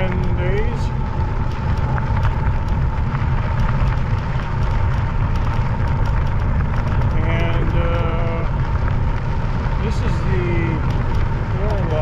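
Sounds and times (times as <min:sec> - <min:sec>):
wind buffeting: 0:00.0 - 0:12.0.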